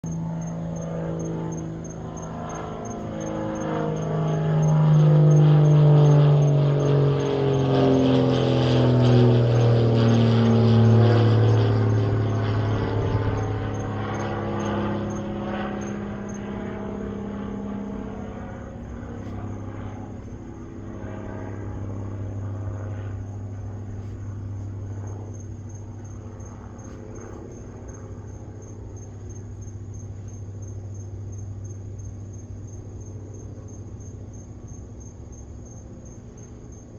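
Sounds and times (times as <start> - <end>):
aircraft engine droning overhead: 0.0 - 36.9
crickets chirping: 0.0 - 36.9.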